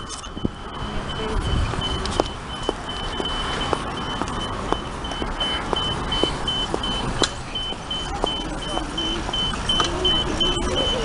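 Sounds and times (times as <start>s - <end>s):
city traffic rumble: 0.0s - 11.0s
crossing signal beeping: 0.0s - 11.0s.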